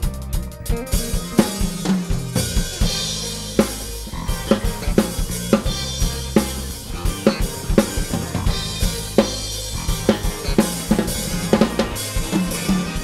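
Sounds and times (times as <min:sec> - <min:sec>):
acoustic drum kit: 0:00.0 - 0:13.0
backing track bass notes: 0:00.0 - 0:13.0.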